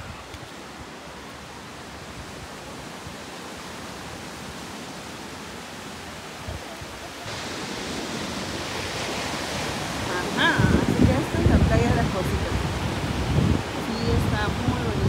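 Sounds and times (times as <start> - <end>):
ocean surf: 0.0 - 15.0
wind on a beach: 0.0 - 15.0.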